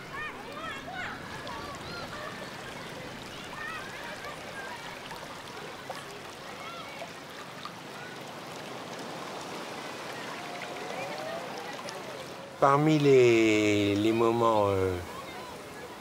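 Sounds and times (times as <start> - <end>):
seawater lapping around timbers: 0.0 - 16.0.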